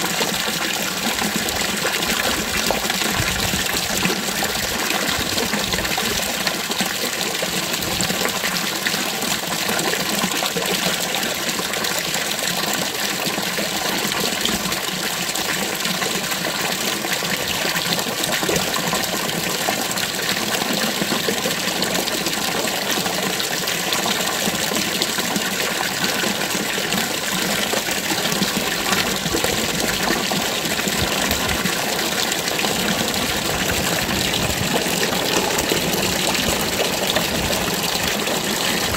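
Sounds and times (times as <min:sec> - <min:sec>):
fountain water splashing into basin: 0:00.0 - 0:38.9.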